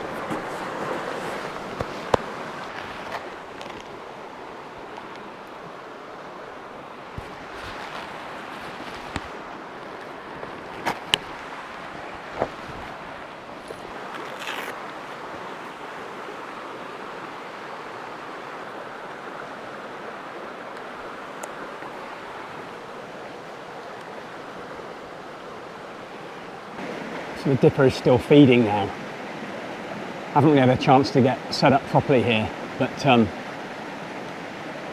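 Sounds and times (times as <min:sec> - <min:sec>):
rustle: 0:00.0 - 0:34.9
stream rushing over rocks: 0:00.0 - 0:34.9.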